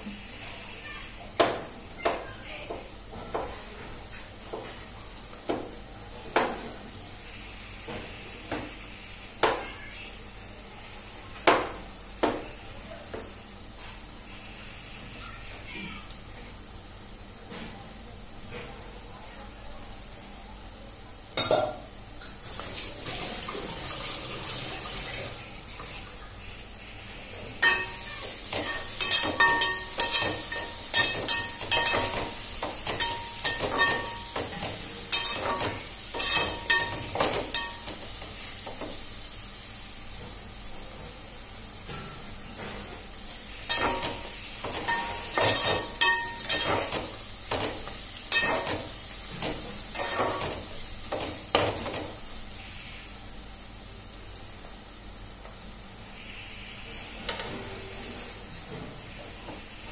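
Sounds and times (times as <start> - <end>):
leaves and onions sizzling in pot: 0.0 - 59.9.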